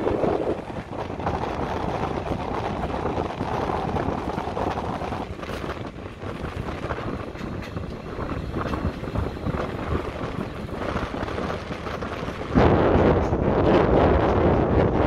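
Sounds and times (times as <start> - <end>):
train wheels rumbling on rail: 0.0 - 15.0
wind buffeting microphone: 0.0 - 15.0.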